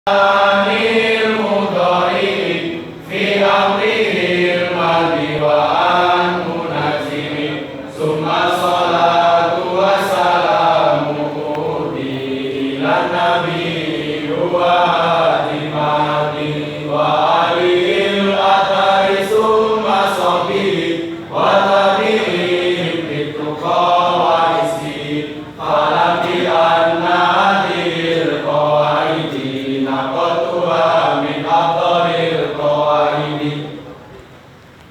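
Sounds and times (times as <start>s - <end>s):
group of voices chanting: 0.1s - 33.9s.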